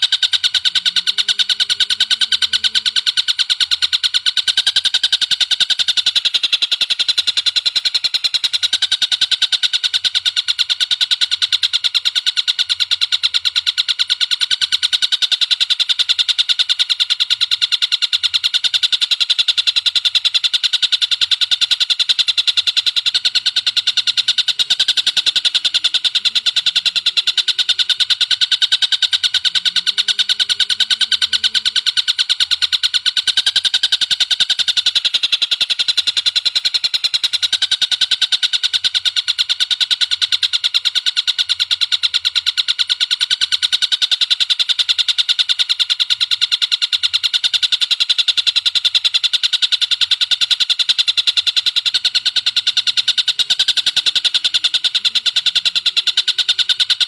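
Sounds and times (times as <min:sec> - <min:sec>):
bird chattering high notes: 0:00.0 - 0:17.7, 0:18.8 - 0:42.4, 0:48.8 - 0:57.0.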